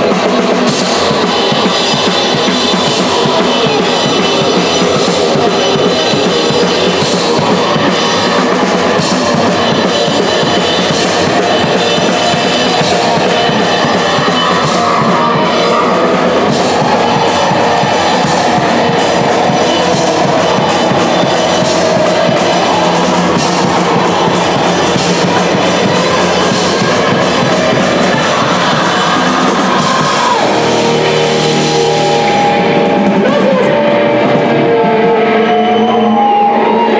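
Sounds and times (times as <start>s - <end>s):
drum kit pounding: 0.0s - 36.2s
punk rock band playing: 0.0s - 36.9s
held guitar notes ringing: 1.8s - 36.2s.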